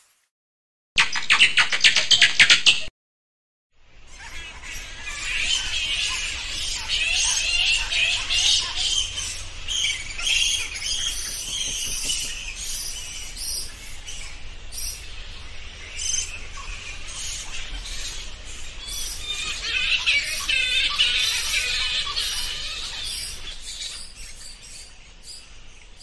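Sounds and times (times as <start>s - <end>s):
bats chittering and squeaking: 4.1s - 25.5s.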